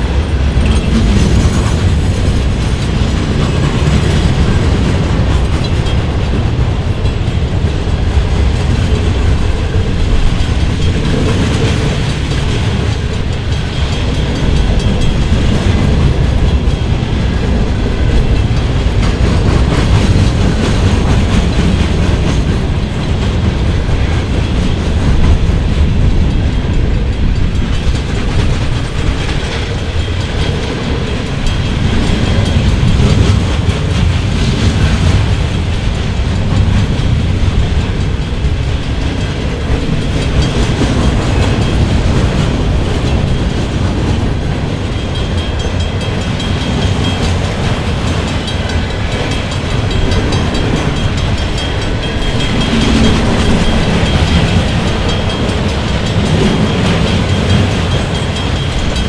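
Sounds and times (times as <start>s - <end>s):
freight train rumbling past: 0.0s - 59.0s
wheels clicking on rails: 0.0s - 59.0s.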